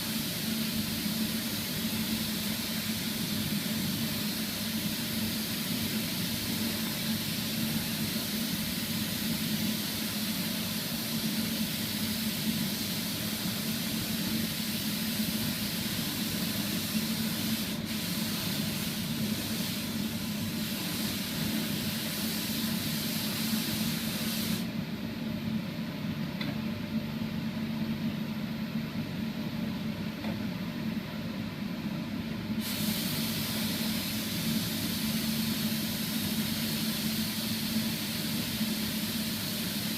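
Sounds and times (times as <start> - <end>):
spray gun hissing: 0.0 - 24.7, 32.6 - 39.9.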